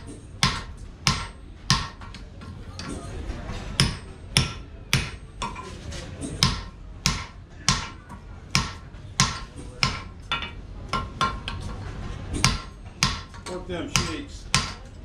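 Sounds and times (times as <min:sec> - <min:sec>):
hammer striking hot steel on anvil: 0:00.0 - 0:02.2, 0:03.7 - 0:05.6, 0:06.2 - 0:11.7, 0:12.4 - 0:14.9.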